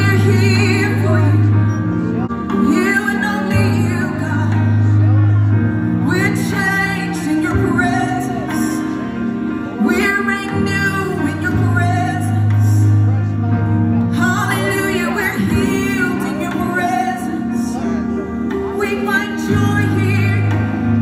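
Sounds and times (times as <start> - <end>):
worship band playing: 0.0 - 21.0.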